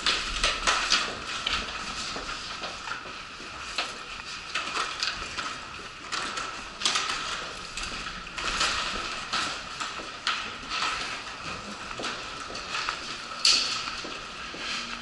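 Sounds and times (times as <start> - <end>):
footsteps on hard floor: 0.0 - 15.0
wheeled suitcase rolling: 0.0 - 15.0.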